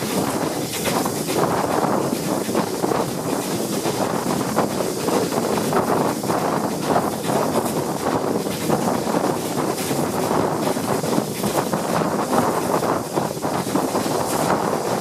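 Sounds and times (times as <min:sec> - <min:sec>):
train rumbling: 0:00.0 - 0:15.0
wind buffeting microphone: 0:00.0 - 0:15.0.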